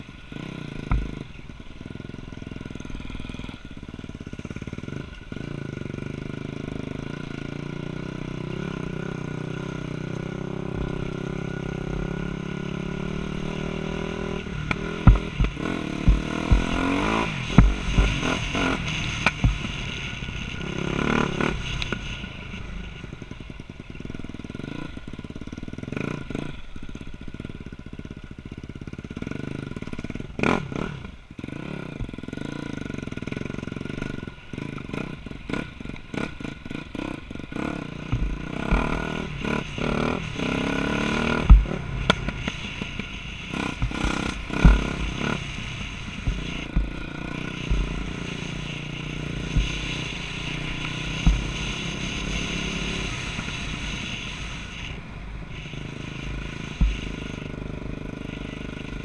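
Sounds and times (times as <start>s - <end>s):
dirt bike engine revving: 0.3s - 59.0s.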